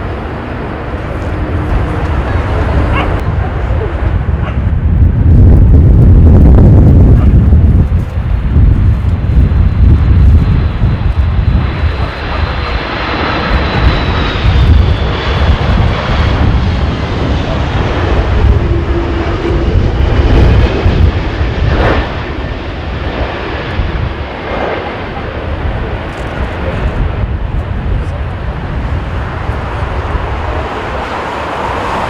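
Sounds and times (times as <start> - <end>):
jet engines whining: 0.0 - 32.0
wind buffeting microphone: 0.0 - 32.0.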